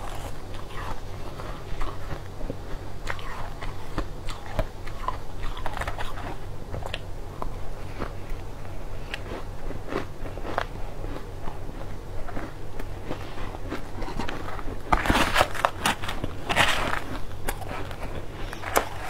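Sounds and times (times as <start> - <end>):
crunching and chewing sweet: 0.0 - 19.0
low steady hum: 0.0 - 19.0.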